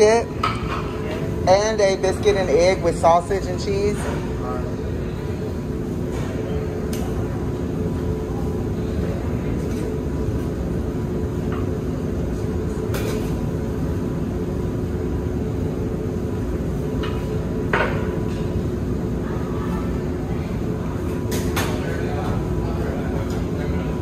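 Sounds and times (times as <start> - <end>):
ventilation hum: 0.0 - 24.0.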